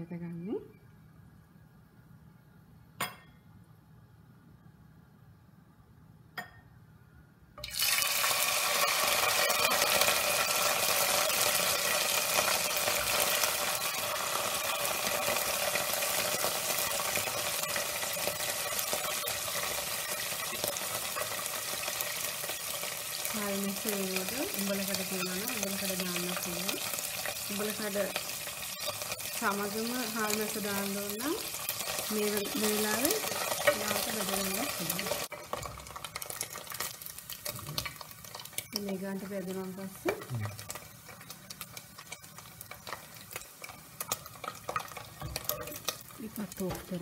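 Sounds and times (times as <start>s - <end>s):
fish sizzling in hot oil: 7.6s - 47.0s.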